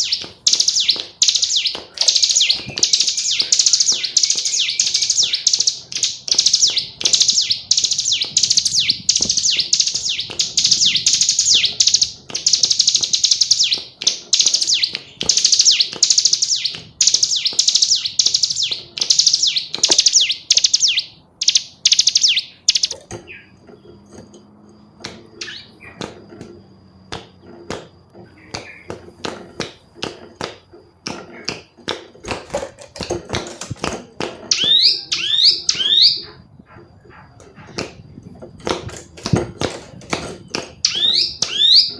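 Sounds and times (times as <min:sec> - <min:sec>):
bird chirping in fast trains: 0:00.0 - 0:29.9, 0:34.5 - 0:41.9.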